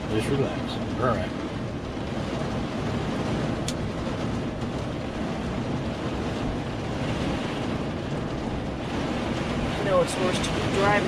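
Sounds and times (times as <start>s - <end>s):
rain beating on vehicle roof: 0.0s - 11.0s
wind: 0.0s - 11.0s.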